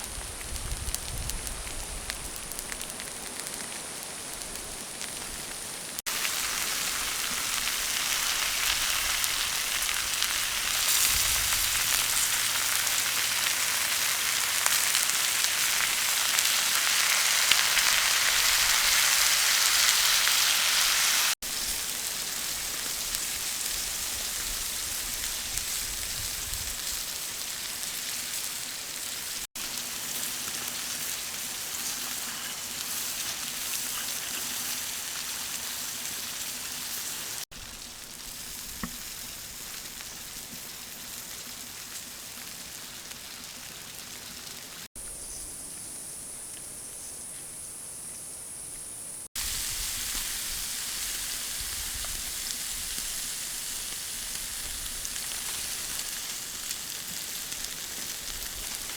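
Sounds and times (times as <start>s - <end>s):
chicken wings sizzling: 0.0s - 45.0s, 49.3s - 58.9s.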